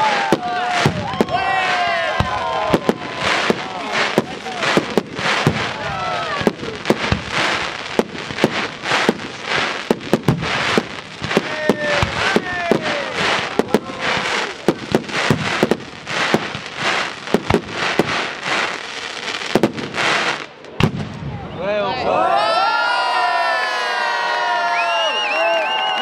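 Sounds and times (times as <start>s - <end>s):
fireworks crackling: 0.0s - 21.5s
fireworks bangs: 0.0s - 21.6s.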